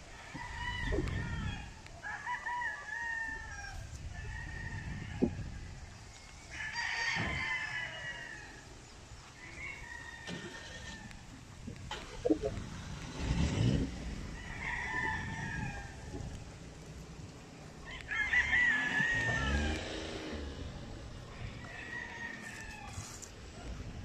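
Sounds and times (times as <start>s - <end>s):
roosters crowing: 0.0s - 24.0s.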